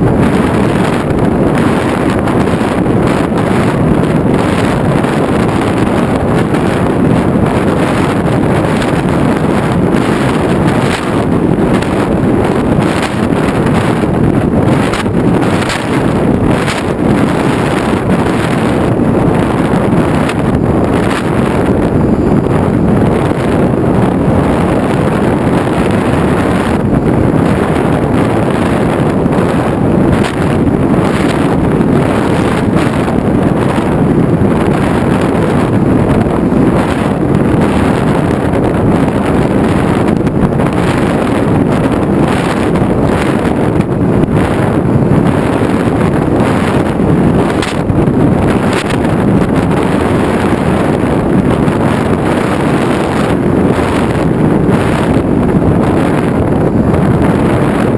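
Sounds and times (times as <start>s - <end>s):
wind rush on microphone: 0.0s - 57.9s.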